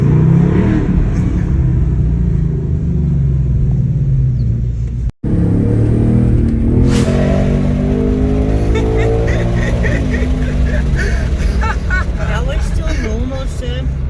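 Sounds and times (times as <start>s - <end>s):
car engine running: 0.8s - 14.0s.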